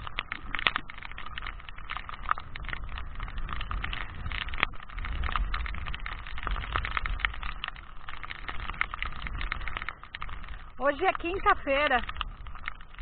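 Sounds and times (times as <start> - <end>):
rain hitting plastic rain cape: 0.0 - 13.0
wind buffeting microphone: 0.0 - 13.0.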